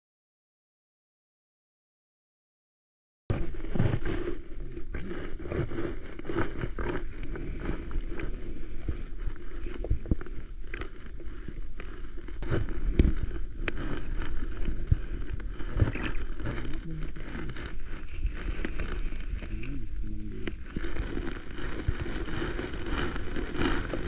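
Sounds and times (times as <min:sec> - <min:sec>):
underwater clicks and knocks: 0:03.3 - 0:24.0
underwater rumble of moving water: 0:03.3 - 0:24.0.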